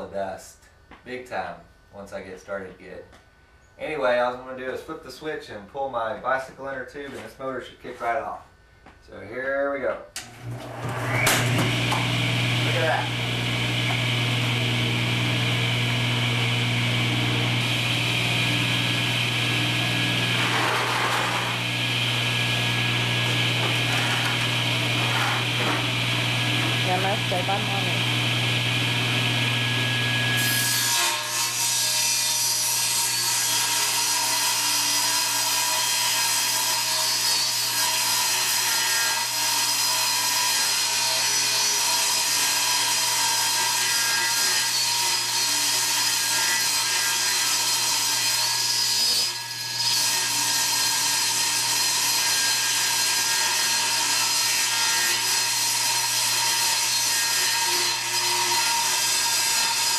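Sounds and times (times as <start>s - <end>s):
table saw cutting plywood: 10.3s - 59.9s.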